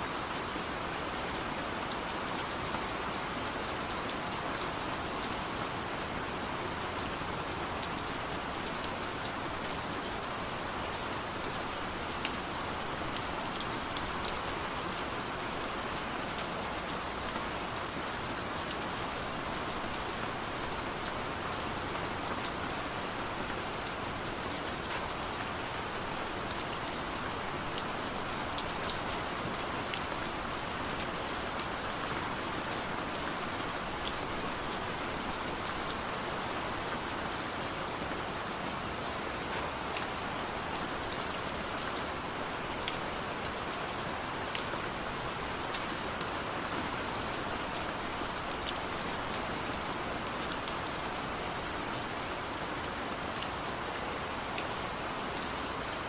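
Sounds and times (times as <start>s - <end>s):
rain drops ticking: 0.0s - 56.0s
steady rain: 0.0s - 56.0s.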